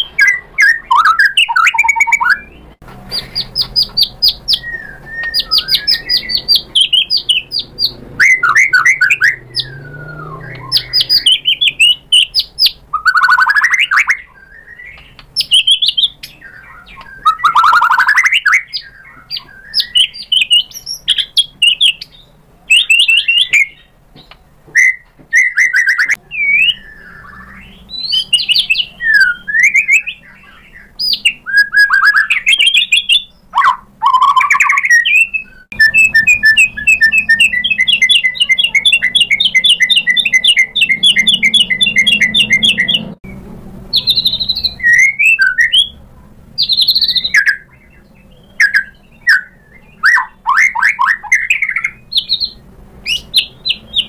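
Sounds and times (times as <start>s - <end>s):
songbird singing trills and whistles: 0.0s - 46.0s, 46.6s - 54.0s.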